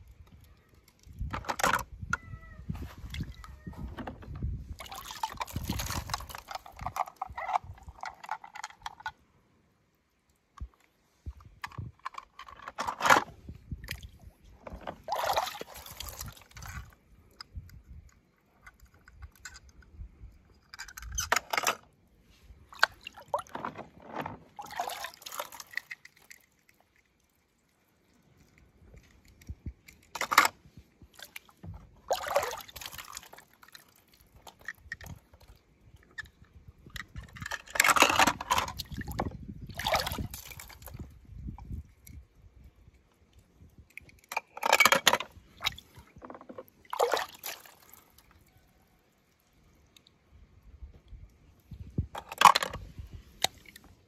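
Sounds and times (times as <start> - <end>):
water splashing and dripping: 0.0 - 1.8, 4.2 - 9.2, 13.5 - 19.8, 22.6 - 54.0.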